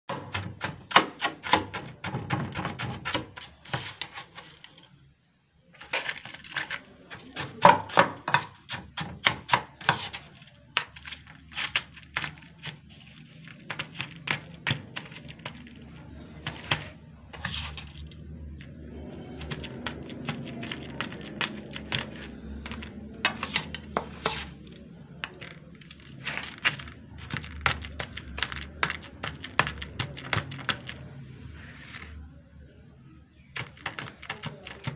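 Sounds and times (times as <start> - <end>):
frost crackling and crunching: 0.3 - 32.4, 33.4 - 34.9.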